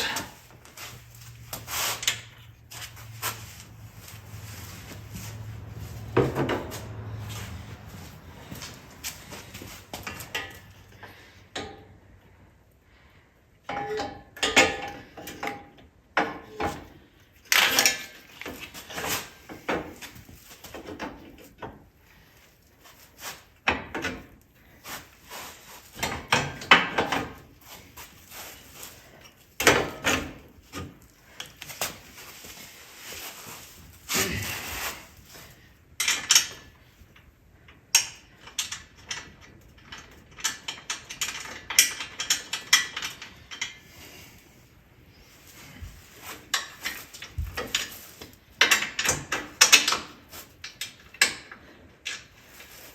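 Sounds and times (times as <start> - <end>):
metal parts and tools clanking: 0.0 - 12.0, 13.6 - 22.2, 22.8 - 44.5, 45.1 - 52.9.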